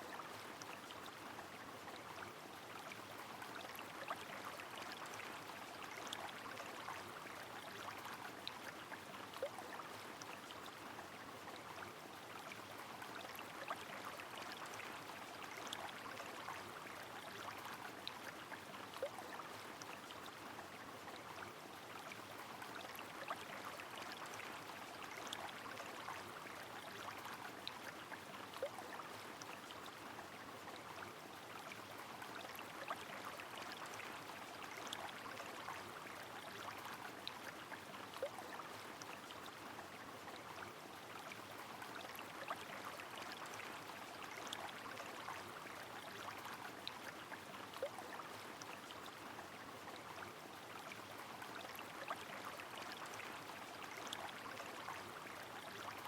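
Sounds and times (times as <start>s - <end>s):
flowing river: 0.0s - 56.0s.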